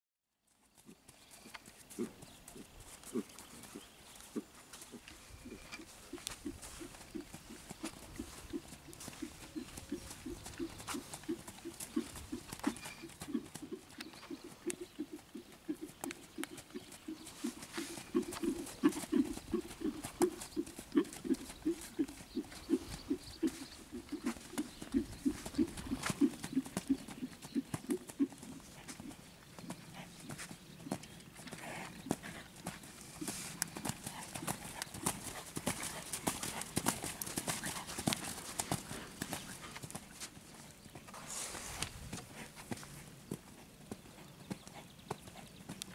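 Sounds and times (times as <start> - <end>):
hooves thudding on sand: 0.7 - 45.9.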